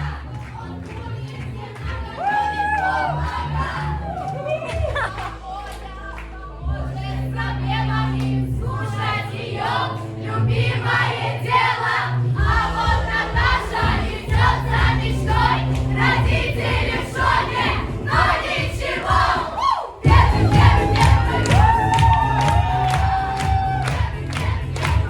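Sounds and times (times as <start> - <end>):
group of voices singing: 0.0 - 25.0
recorded music with bass line: 0.0 - 25.0.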